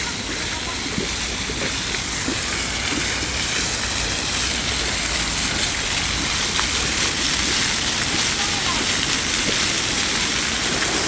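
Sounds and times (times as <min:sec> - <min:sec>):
water spraying and falling: 0:00.0 - 0:11.0.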